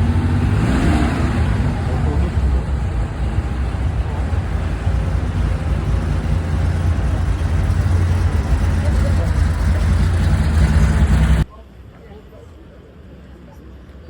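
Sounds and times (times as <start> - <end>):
faint voices of passers-by: 0.0 - 14.0
street traffic rumble: 0.0 - 14.0.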